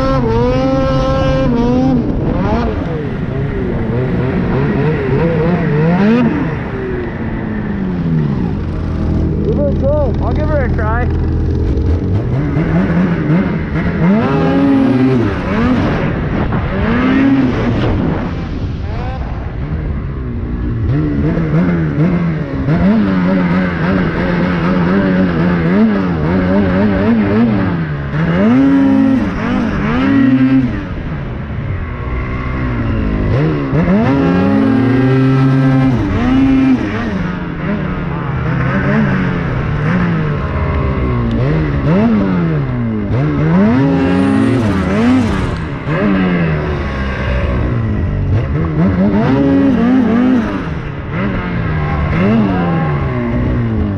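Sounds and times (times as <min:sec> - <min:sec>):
snowmobile engine revving: 0:00.0 - 0:53.9.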